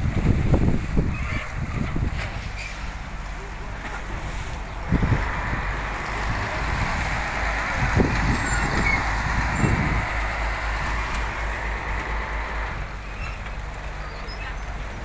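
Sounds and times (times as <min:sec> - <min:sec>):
boat diesel engine running: 0:00.0 - 0:15.0
water noise: 0:00.0 - 0:15.0
wind: 0:00.0 - 0:15.0.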